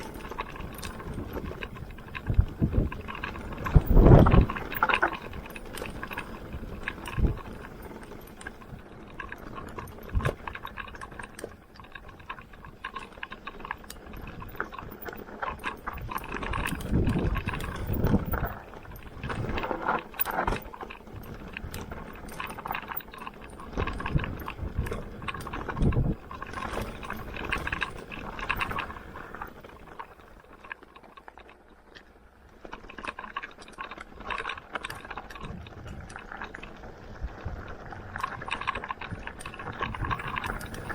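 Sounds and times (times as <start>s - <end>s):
chain and frame rattling: 0.0s - 31.7s, 32.7s - 36.7s, 37.4s - 40.9s
bike tyres on dirt trail: 0.0s - 40.9s.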